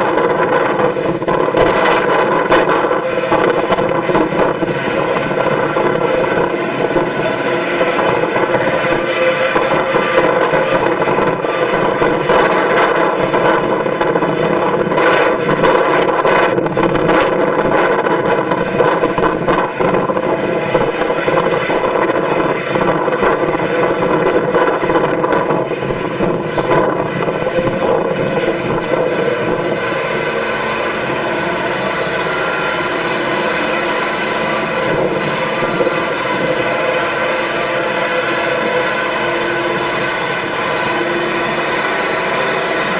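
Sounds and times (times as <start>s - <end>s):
heavy machine engine running: 0.0s - 42.9s
wind noise on microphone: 0.0s - 42.9s.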